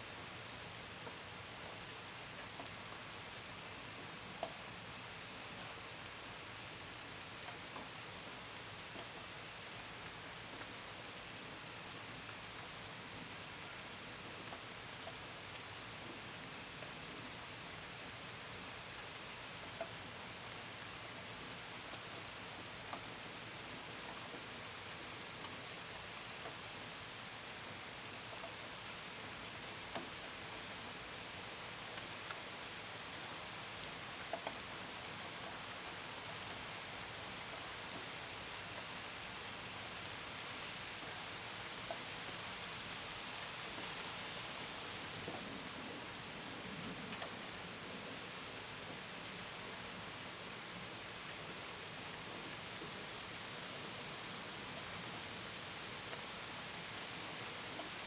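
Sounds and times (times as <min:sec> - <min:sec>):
gentle rain: 0:00.0 - 0:58.0
crickets chirping: 0:00.1 - 0:58.0.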